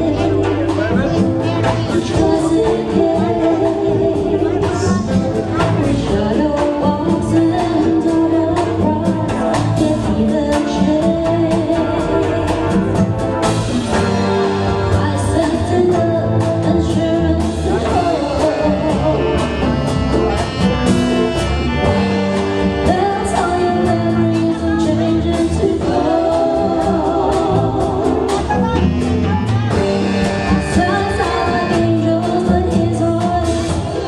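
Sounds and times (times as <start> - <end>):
dance band playing slow song: 0.0 - 34.0
person singing: 0.0 - 34.0.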